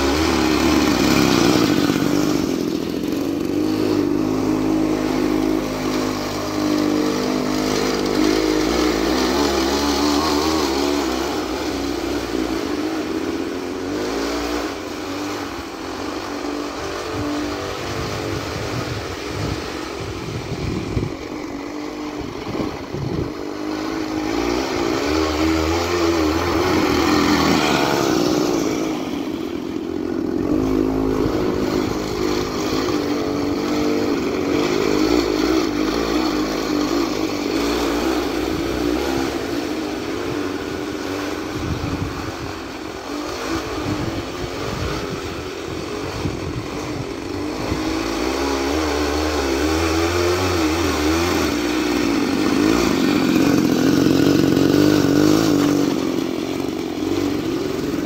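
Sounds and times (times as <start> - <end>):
chainsaw engine running under load: 0.0 - 58.0.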